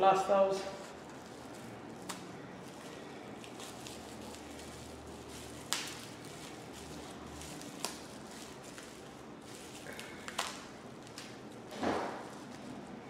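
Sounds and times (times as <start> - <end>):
handling of small items: 0.6 - 12.9.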